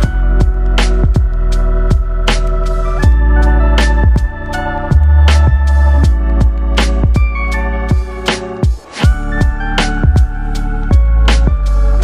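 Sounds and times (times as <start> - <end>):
deep kick drums: 0.0 - 11.9
held chords: 0.0 - 12.0.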